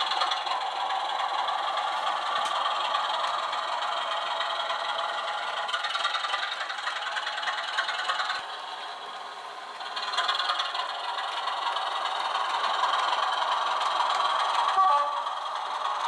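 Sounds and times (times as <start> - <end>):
model train rattling on track: 0.0 - 16.0.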